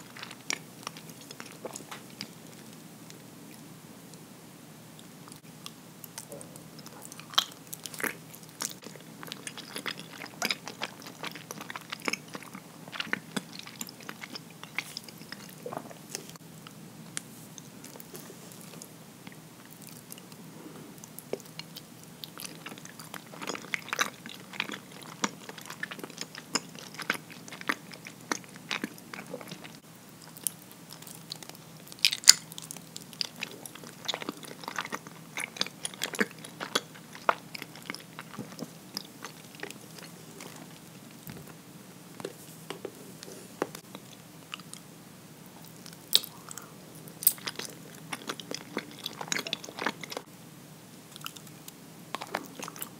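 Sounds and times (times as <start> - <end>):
chewing sticky food: 0.0 - 3.7, 5.0 - 44.9, 45.5 - 50.3, 51.1 - 52.9.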